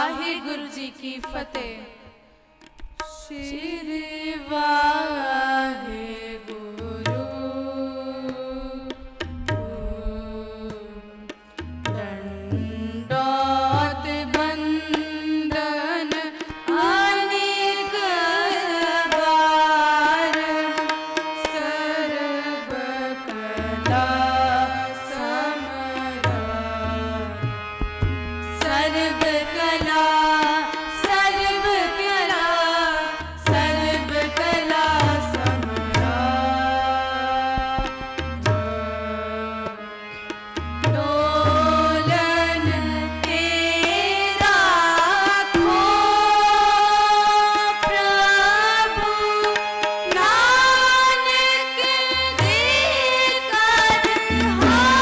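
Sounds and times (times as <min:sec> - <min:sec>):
tabla: 0:00.0 - 0:55.0.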